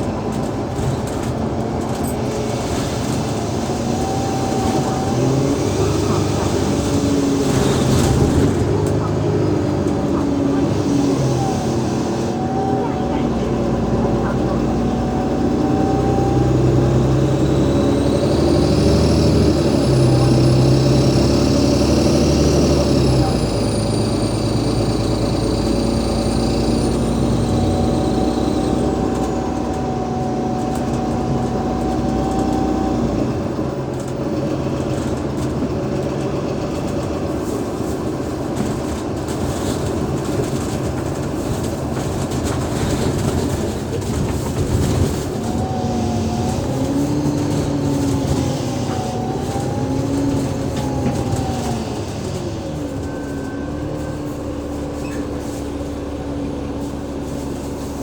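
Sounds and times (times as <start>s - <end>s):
bus drivetrain whine: 0.0s - 58.0s
low bus engine rumble: 0.0s - 58.0s.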